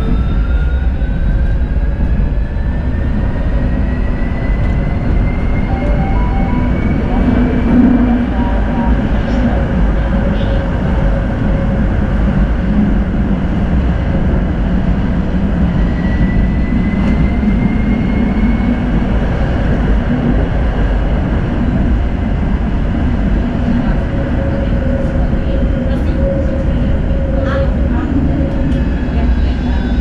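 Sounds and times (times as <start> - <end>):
tram wheels rumbling on rails: 0.0 - 30.0.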